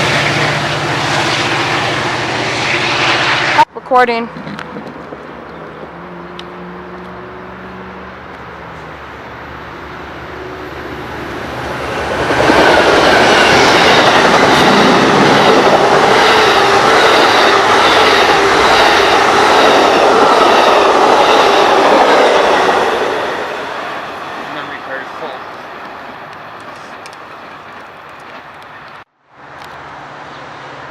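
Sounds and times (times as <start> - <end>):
train rumbling past: 0.0 - 30.9
ringing from wheels and rails: 4.3 - 29.0.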